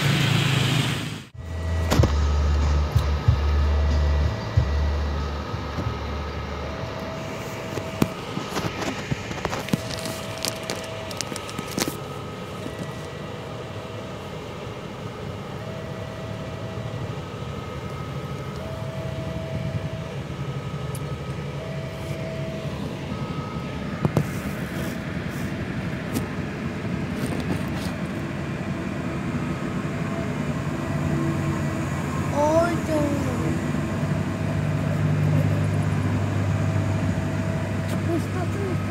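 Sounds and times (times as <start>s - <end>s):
vehicle engines idling: 0.0s - 38.9s
two-tone crossing warning signal: 1.4s - 27.2s, 27.8s - 38.9s.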